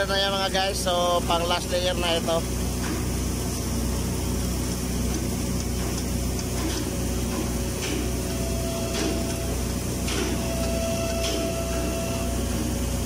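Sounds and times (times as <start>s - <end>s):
welder hum and hiss: 0.0s - 13.0s.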